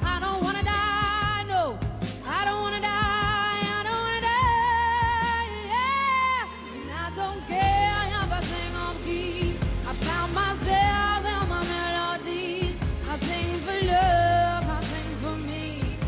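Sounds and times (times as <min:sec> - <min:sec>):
pop backing track: 0:00.0 - 0:16.0
woman singing with vibrato: 0:00.0 - 0:16.0.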